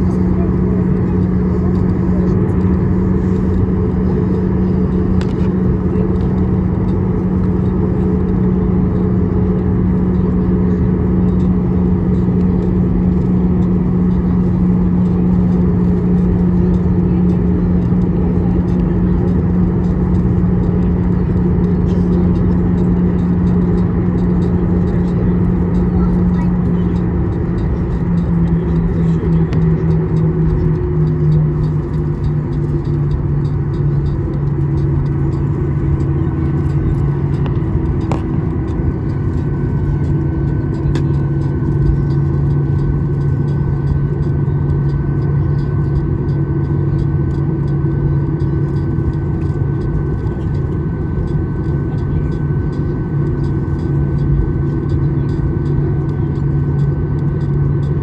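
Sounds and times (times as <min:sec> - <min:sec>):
faint steady whine: 0:00.0 - 0:58.0
jet engines low hum and rumble: 0:00.0 - 0:58.0.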